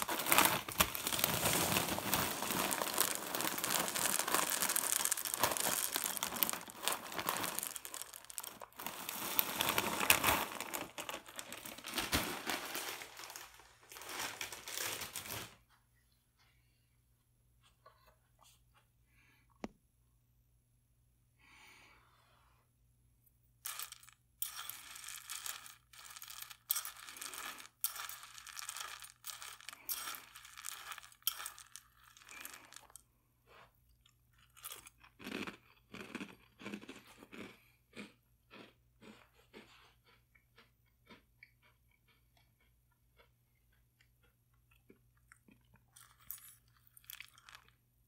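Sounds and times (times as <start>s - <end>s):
spoon stirring crunchy cereal: 0.0s - 15.4s, 23.6s - 47.8s.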